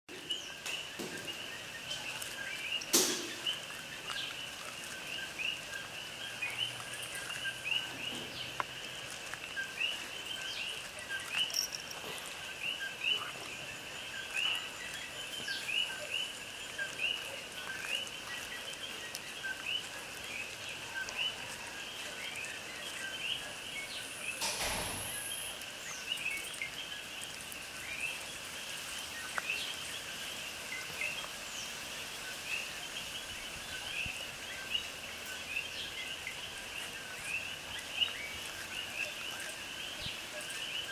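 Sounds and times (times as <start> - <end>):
rustle: 0.1 - 40.9.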